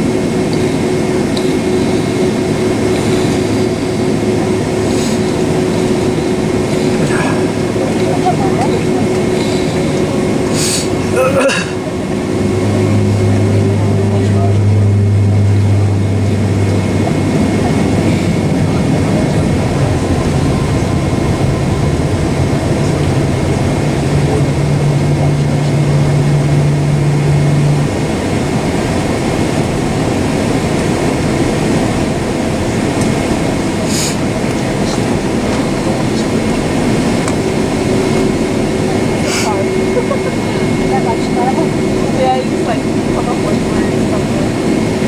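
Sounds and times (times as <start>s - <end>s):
jet engines roaring in cabin: 0.0s - 45.0s
low hum: 0.0s - 45.0s.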